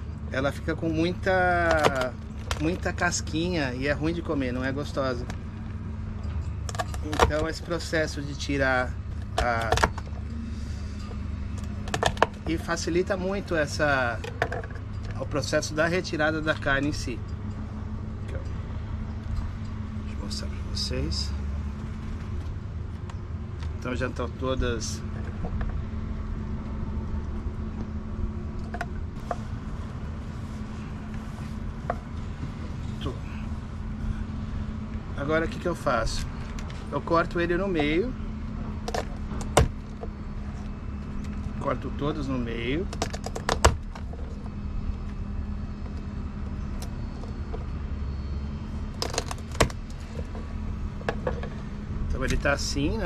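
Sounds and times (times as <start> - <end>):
low engine-like rumble: 0.0 - 53.0.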